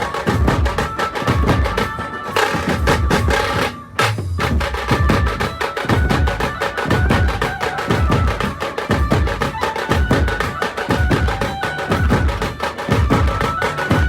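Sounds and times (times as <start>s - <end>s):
fast dense percussion: 0.0s - 14.0s.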